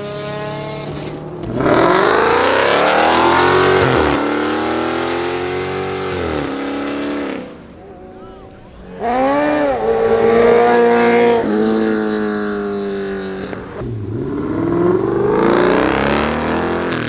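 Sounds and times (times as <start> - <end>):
car engine revving: 0.0 - 7.8, 8.7 - 17.0.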